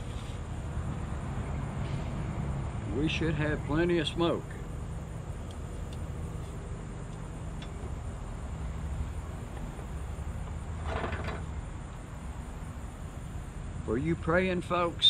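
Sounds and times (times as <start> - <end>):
distant road traffic rumble: 0.0 - 15.0
insects chirring: 0.0 - 15.0.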